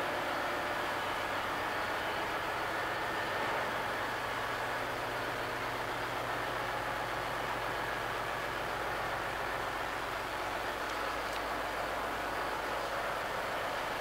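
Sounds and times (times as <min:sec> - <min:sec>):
engine-room machinery roar: 0:00.0 - 0:14.0.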